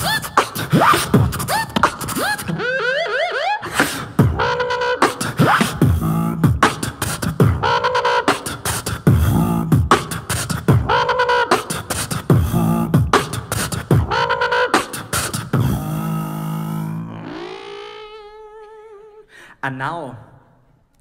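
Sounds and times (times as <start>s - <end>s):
beatboxing drum sounds: 0.0s - 19.2s
pitched vocal riff: 0.0s - 19.6s.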